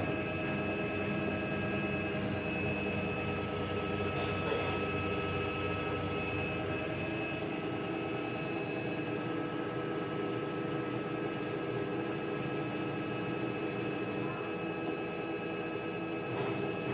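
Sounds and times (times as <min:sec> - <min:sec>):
washing machine spinning: 0:00.0 - 0:16.9.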